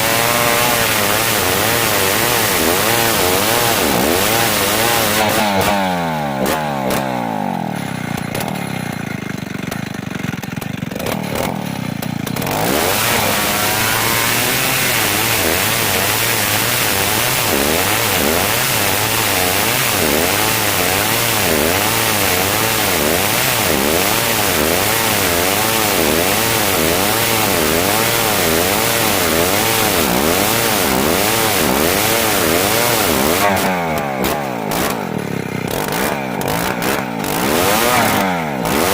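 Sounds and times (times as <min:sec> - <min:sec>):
chainsaw cutting log: 0:00.0 - 0:38.9
chainsaw idling: 0:00.0 - 0:38.9.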